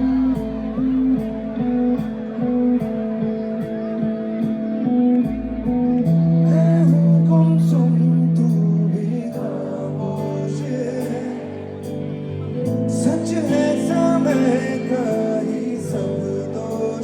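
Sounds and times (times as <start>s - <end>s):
music with sustained notes: 0.0s - 17.0s
person singing: 0.0s - 17.0s.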